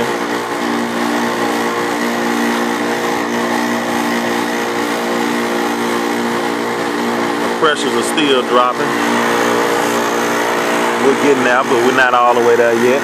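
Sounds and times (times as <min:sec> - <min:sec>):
refrigerant recovery machine humming: 0:00.0 - 0:13.0.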